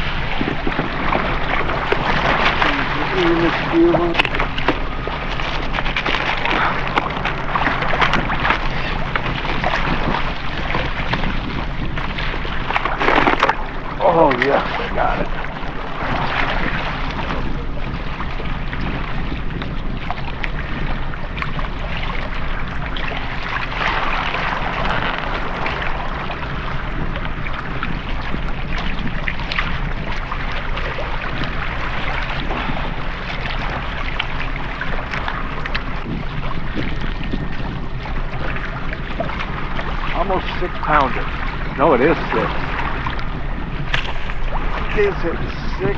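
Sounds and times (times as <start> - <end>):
water sloshing against kayak: 0.0 - 45.9
wind buffeting microphone: 0.0 - 45.9.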